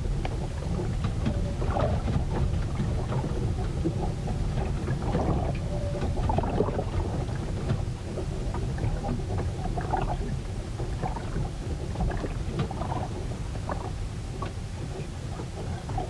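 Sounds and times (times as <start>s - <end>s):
low rumble of wind: 0.0s - 16.0s
rough water: 0.0s - 16.0s.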